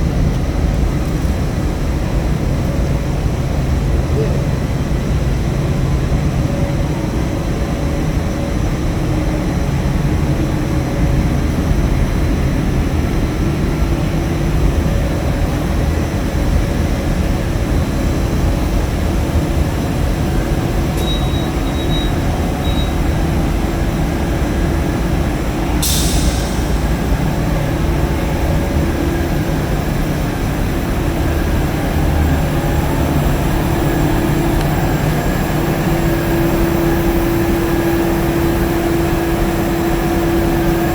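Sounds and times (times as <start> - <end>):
industrial machinery hum: 0.0 - 40.9.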